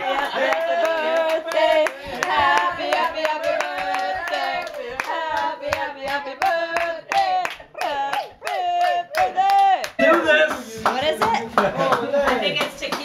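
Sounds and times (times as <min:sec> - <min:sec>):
voices singing: 0:00.0 - 0:12.6
group clapping in rhythm: 0:00.0 - 0:13.0.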